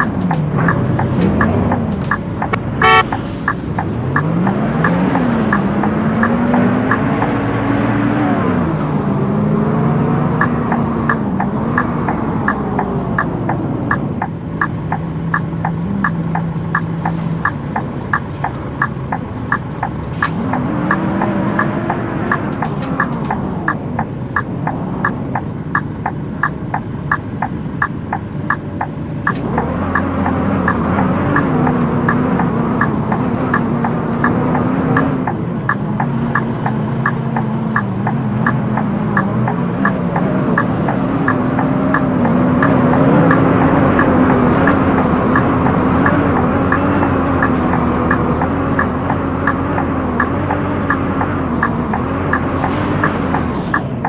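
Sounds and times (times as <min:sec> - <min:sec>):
bus engine running: 0:00.0 - 0:54.0
fast regular wheel clicking: 0:00.0 - 0:54.0.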